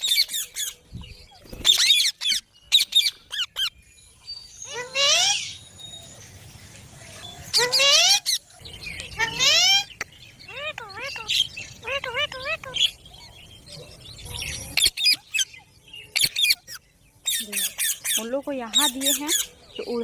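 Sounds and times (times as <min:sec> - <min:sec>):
parakeets calling: 0:00.0 - 0:20.0.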